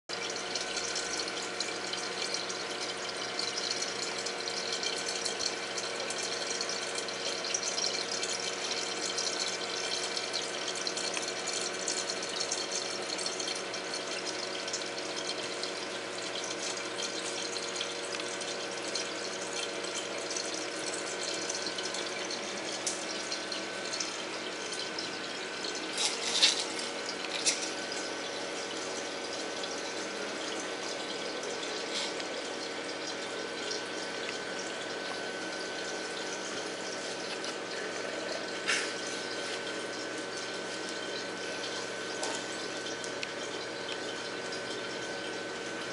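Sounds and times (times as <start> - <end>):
aquarium water splashing: 0.1 - 45.9
steady hum: 0.2 - 45.9.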